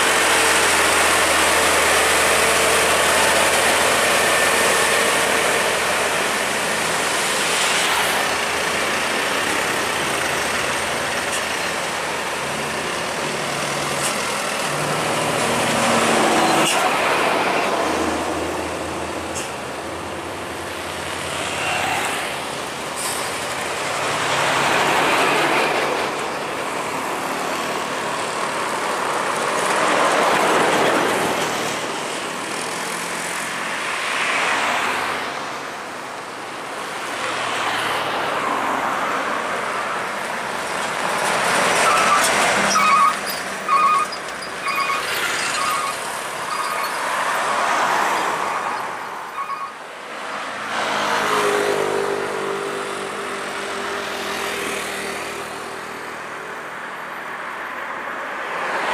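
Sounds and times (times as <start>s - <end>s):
diesel trucks passing: 0.0s - 58.9s.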